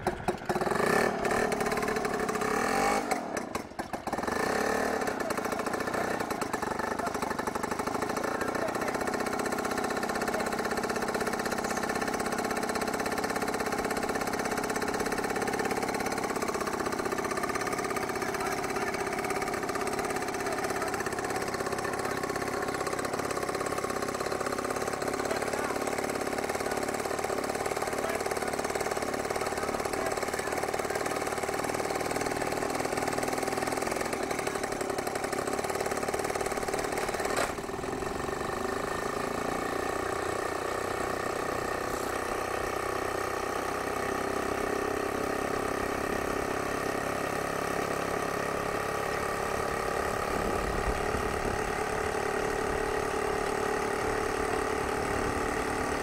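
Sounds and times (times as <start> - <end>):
aircraft engine and propeller: 0.0 - 44.6, 45.6 - 55.8.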